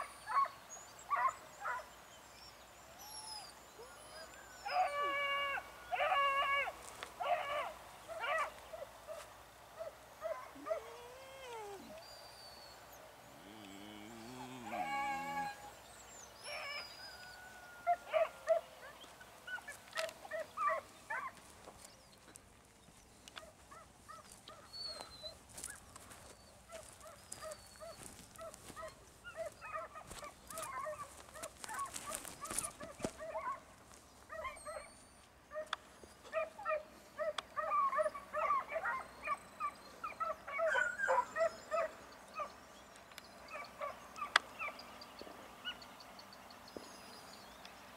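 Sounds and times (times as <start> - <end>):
hounds yelping: 0.0 - 22.4, 23.3 - 45.0.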